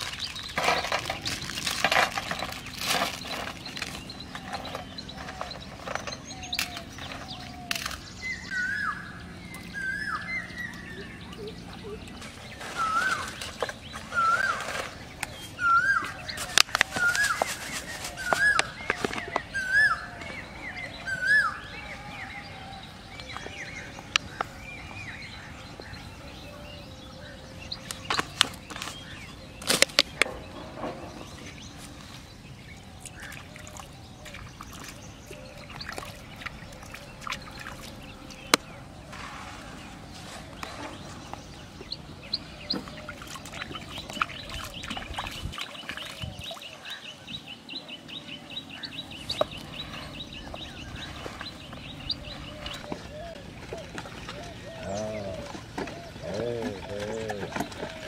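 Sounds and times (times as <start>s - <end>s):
bird calling: 0.0s - 58.0s
outdoor ambience: 0.0s - 58.0s.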